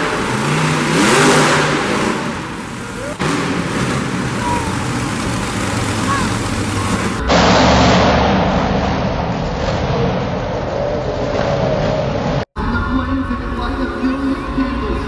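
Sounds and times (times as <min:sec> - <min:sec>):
monster truck engine revving: 0:00.0 - 0:12.5
arena crowd noise: 0:00.0 - 0:15.0.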